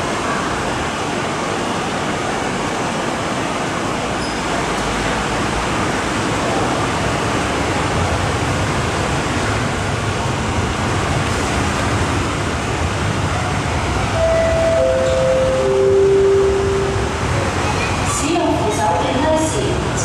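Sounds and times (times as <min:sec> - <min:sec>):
train rumble in tunnel: 0:00.0 - 0:20.0.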